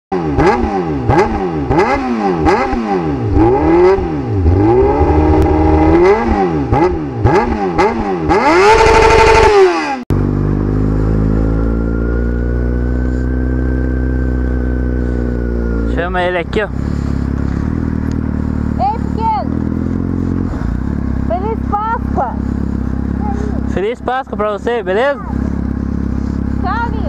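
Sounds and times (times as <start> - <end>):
motorcycle engine revving: 0.1 - 27.0
motorcycle engine running steadily: 0.1 - 27.0.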